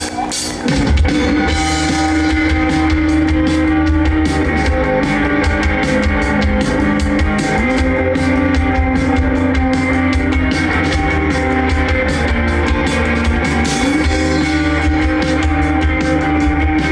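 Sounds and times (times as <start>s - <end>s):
rock band playing live: 0.0s - 16.9s.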